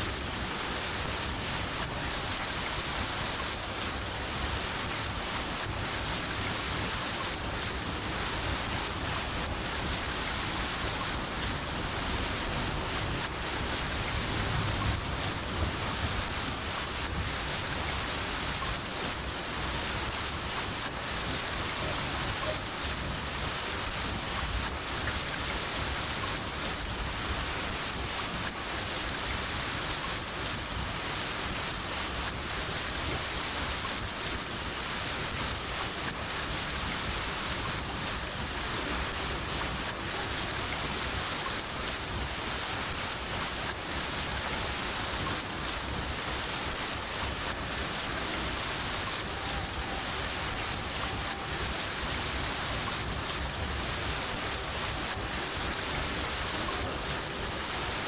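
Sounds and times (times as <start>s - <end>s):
cricket chirping: 0.0s - 13.4s, 14.3s - 58.0s
rain falling: 0.0s - 58.0s.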